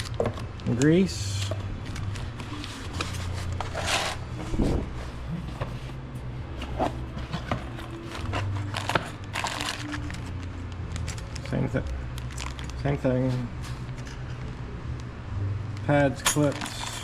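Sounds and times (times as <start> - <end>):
packaging rustling and scraping: 0.0 - 14.6, 16.2 - 17.0
steady low hum: 0.0 - 17.0.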